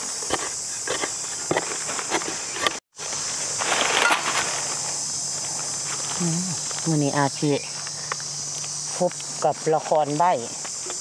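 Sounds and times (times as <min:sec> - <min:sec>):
insects chirring: 0:00.0 - 0:11.0
rustling on forest floor: 0:00.9 - 0:11.0.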